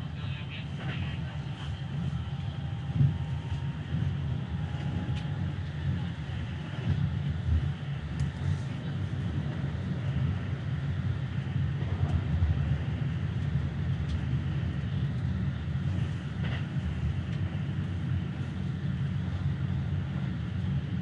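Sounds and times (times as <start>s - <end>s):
train wheels rumbling: 0.0s - 20.8s.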